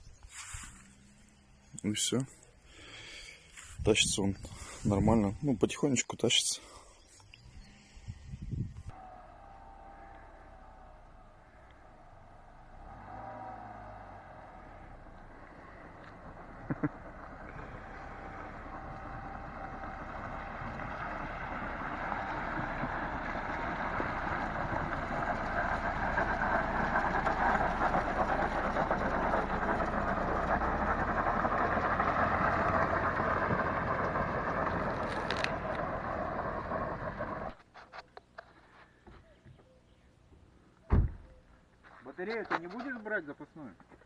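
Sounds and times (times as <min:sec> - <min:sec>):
vehicle road noise: 0:00.0 - 0:05.4, 0:07.0 - 0:38.8.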